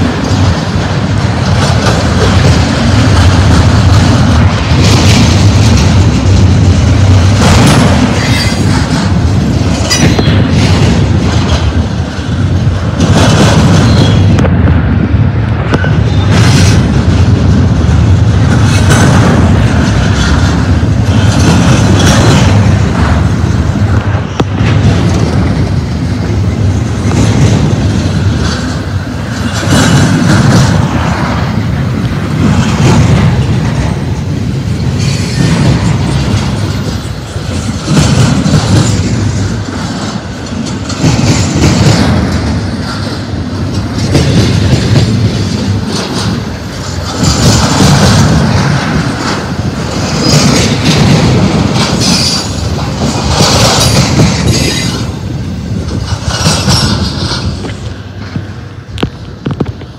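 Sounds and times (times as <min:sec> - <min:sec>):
freight train rolling past: 0:00.0 - 0:59.9
wheels clacking over rail joints: 0:00.0 - 0:59.9.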